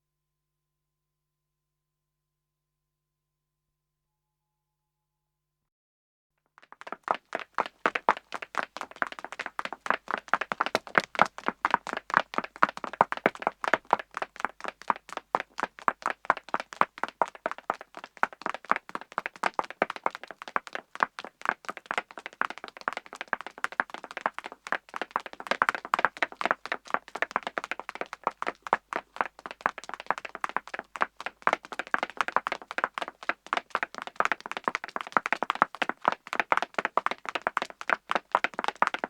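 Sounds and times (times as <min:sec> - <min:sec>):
fast clicking footsteps: 0:06.6 - 0:39.0.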